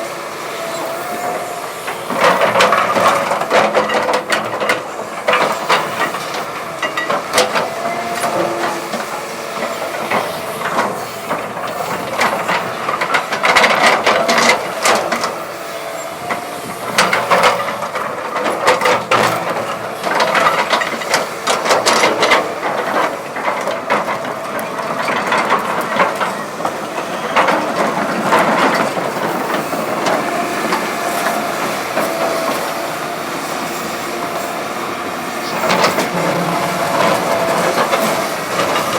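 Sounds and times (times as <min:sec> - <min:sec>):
excavator machine noise: 0:00.0 - 0:38.9.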